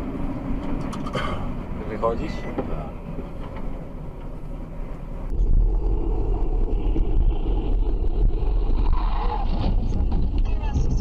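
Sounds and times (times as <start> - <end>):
deep rumble of car driving: 0.0 - 11.0
road and engine noise: 0.0 - 11.0.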